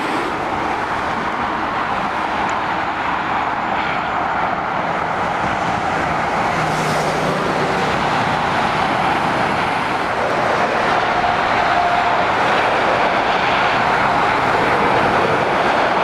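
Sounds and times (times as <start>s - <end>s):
lorries and cars passing: 0.0s - 16.0s.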